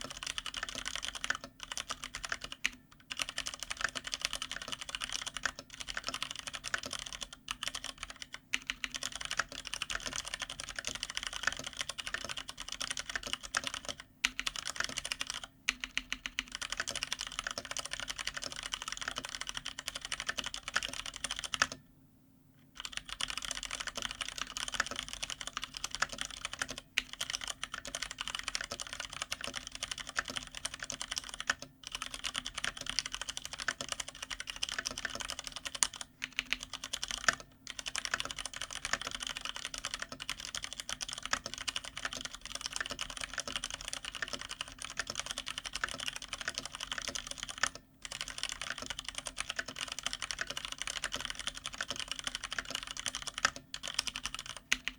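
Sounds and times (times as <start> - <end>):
typing on mechanical keyboard: 0.0 - 21.8, 22.7 - 54.9.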